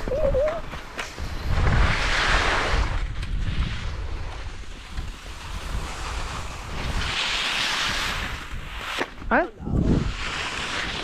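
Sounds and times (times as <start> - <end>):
wind buffeting microphone: 0.0 - 11.0
skis sliding on snow: 0.4 - 11.0.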